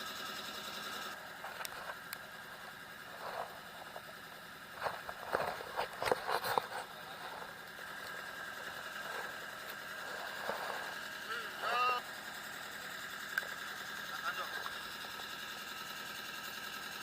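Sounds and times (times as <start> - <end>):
boat engine droning: 1.1 - 16.3.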